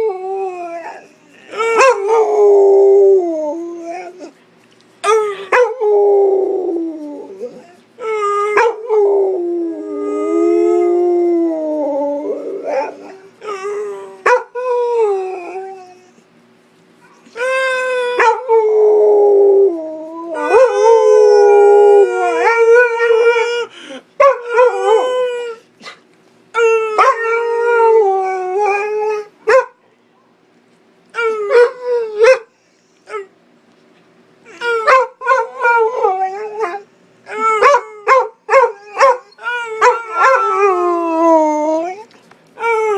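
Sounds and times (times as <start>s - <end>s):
dog howling and yipping: 0.0s - 4.4s, 5.0s - 16.2s, 17.2s - 26.0s, 26.6s - 29.3s, 34.5s - 42.9s.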